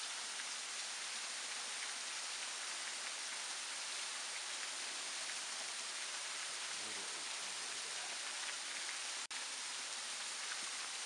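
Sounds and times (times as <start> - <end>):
waterfall splashing on rock: 0.0 - 11.0.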